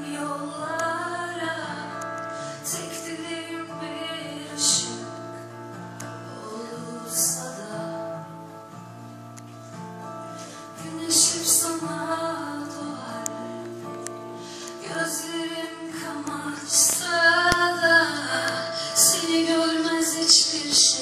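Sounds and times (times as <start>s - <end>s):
woman singing slow song: 0.0s - 8.8s, 10.4s - 21.0s.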